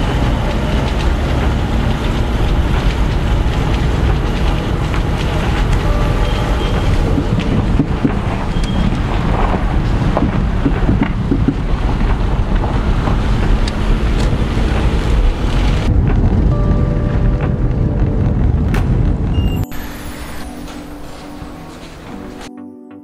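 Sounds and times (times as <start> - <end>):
wind buffeting microphone: 0.0 - 19.8
car road noise: 0.0 - 22.5.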